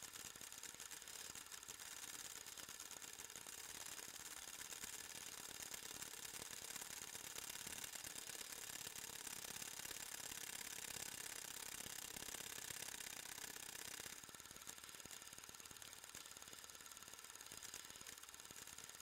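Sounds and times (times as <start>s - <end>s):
cine film projector clatter: 0.0s - 19.0s.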